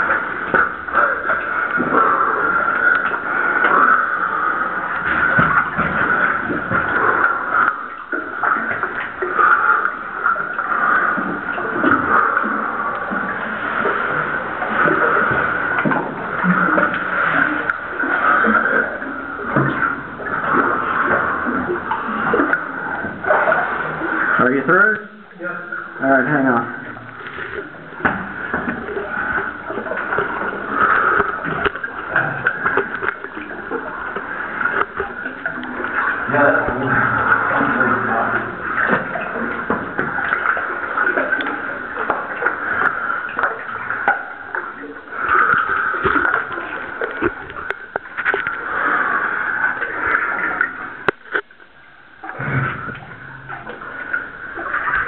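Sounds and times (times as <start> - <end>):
water sloshing and splashing: 0.0 - 55.0.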